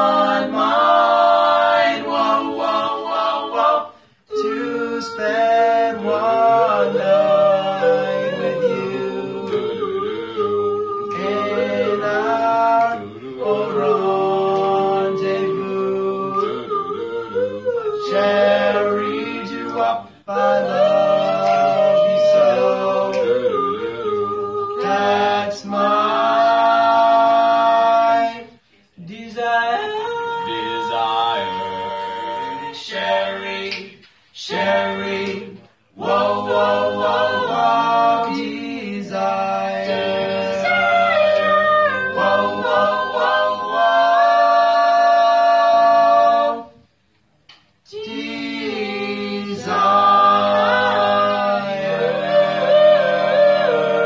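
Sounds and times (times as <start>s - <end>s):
male a cappella group singing: 0.0s - 54.0s.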